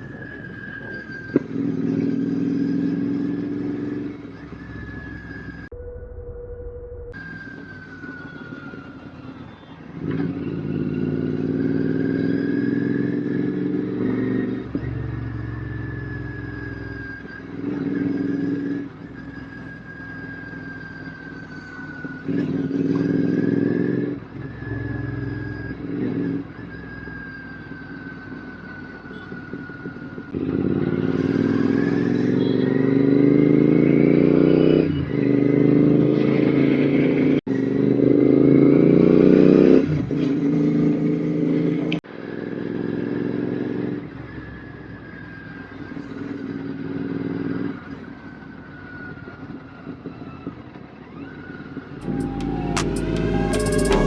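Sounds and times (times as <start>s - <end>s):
motorcycle engine revving: 0.0s - 9.1s, 9.8s - 48.4s, 51.5s - 54.0s.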